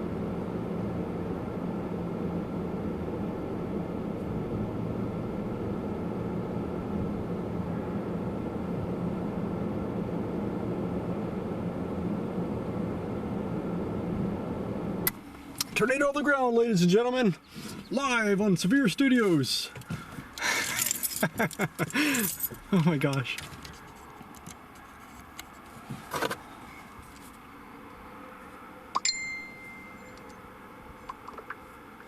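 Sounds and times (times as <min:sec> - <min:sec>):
road noise: 0:00.0 - 0:32.0
truck engine drone: 0:00.0 - 0:32.0.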